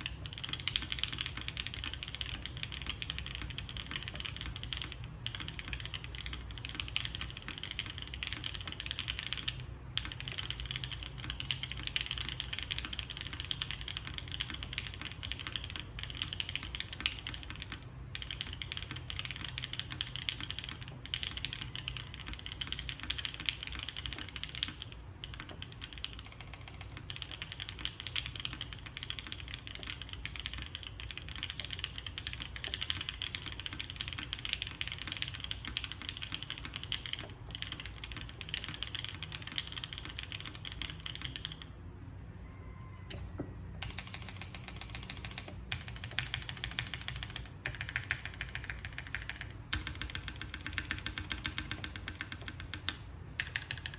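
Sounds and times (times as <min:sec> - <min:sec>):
mechanical keyboard typing: 0:00.0 - 0:41.9, 0:42.6 - 0:53.9.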